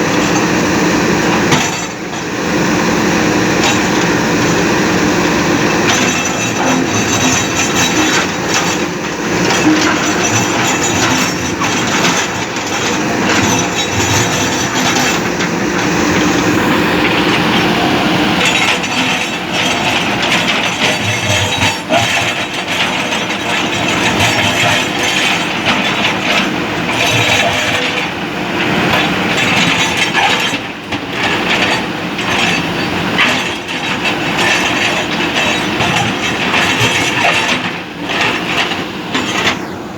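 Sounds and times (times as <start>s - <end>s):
diesel engines running: 0.0s - 39.9s
metal clanks and knocks: 1.3s - 2.3s, 3.6s - 39.8s.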